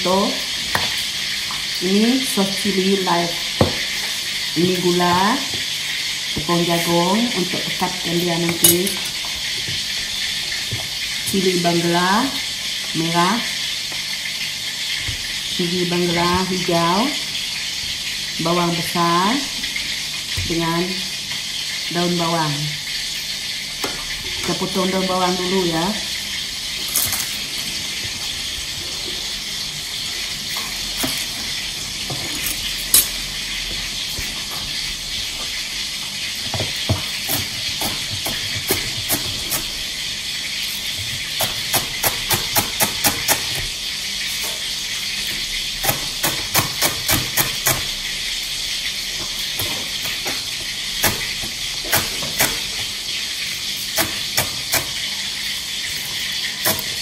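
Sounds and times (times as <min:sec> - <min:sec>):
fish sizzling in hot oil: 0:00.0 - 0:24.4, 0:25.0 - 0:57.0.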